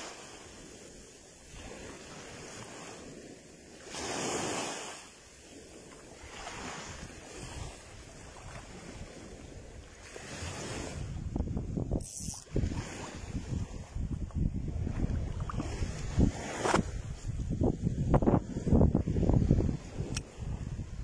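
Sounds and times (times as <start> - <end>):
sea waves breaking: 0.0 - 21.0
wind buffeting microphone: 4.0 - 21.0.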